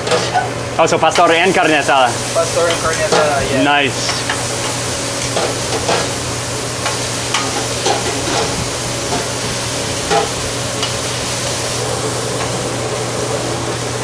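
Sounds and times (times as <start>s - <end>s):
meat sizzling on a griddle: 0.0s - 14.0s.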